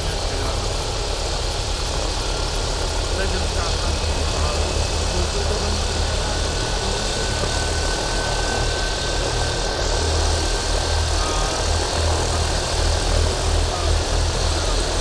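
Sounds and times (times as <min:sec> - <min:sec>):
helicopter turbine and rotor: 0:00.0 - 0:15.0.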